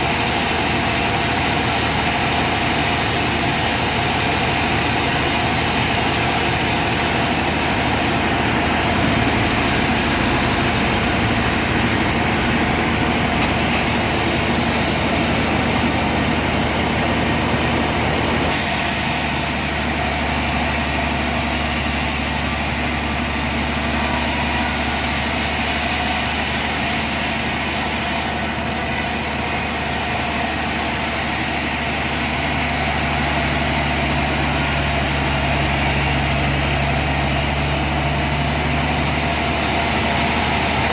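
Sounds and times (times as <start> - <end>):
sawmill machinery hum and hiss: 0.0 - 40.9.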